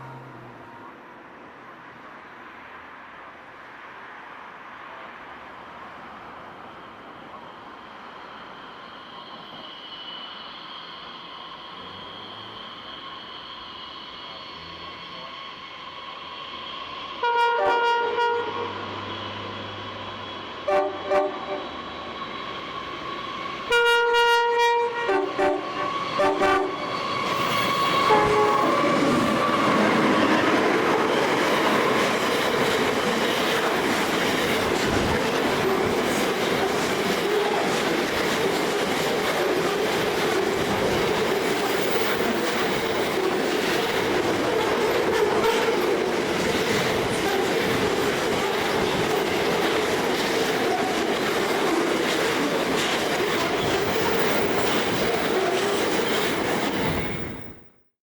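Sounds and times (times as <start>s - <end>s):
train wheels rumbling on rail: 6.4s - 57.6s.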